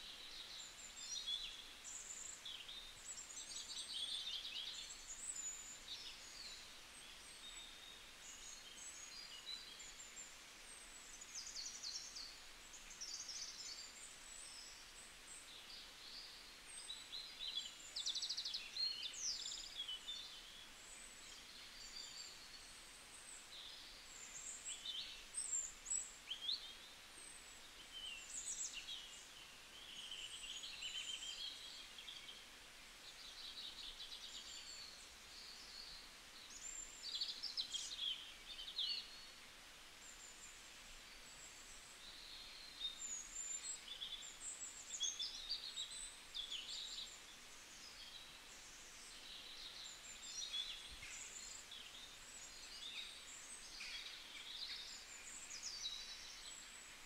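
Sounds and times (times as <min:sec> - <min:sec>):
faint steady hiss: 0:00.0 - 0:57.0
small birds chirping and twittering: 0:00.0 - 0:57.0.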